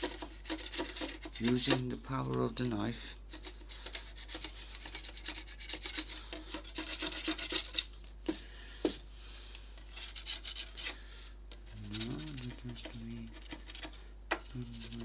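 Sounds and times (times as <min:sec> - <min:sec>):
knife scraping paint: 0:00.0 - 0:02.6, 0:03.3 - 0:08.4, 0:09.8 - 0:15.0.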